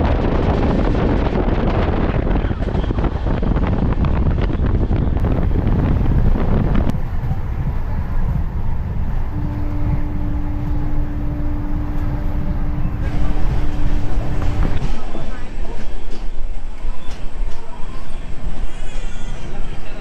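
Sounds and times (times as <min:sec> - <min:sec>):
wind buffeting microphone: 0:00.0 - 0:17.6
train rumble and clatter: 0:00.0 - 0:20.0.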